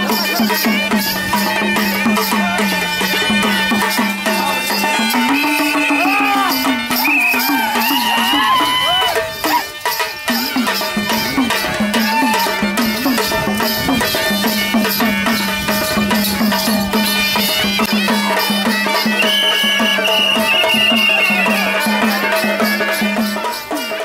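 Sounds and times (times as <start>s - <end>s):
high wailing melody: 0.0s - 23.2s
droning wind instrument: 0.0s - 23.7s
drums beating brisk rhythm: 0.0s - 24.0s.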